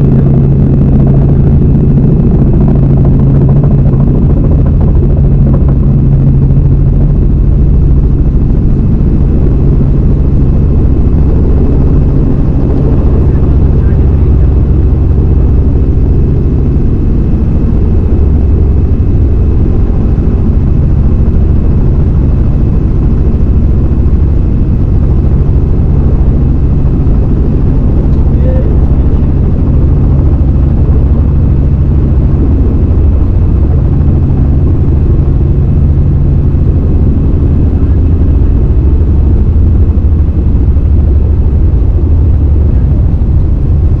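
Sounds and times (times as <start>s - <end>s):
helicopter engine and rotor drone: 0.0s - 44.0s.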